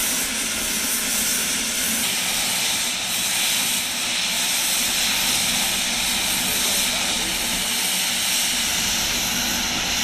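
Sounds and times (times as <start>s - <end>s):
steam locomotive hissing steam: 0.0s - 10.0s.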